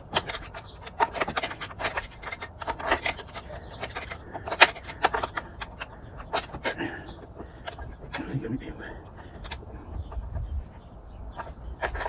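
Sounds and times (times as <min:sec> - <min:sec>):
wrench clicking and scraping on metal: 0:00.0 - 0:10.4, 0:11.4 - 0:12.0.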